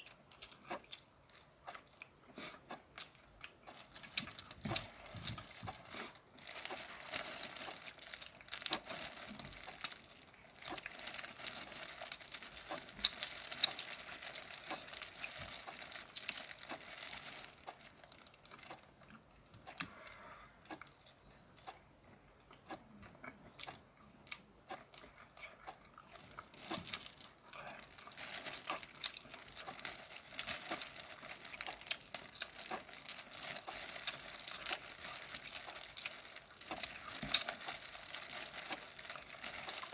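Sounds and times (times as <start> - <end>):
crunching shrimp shells: 0.0 - 21.7, 23.6 - 39.9.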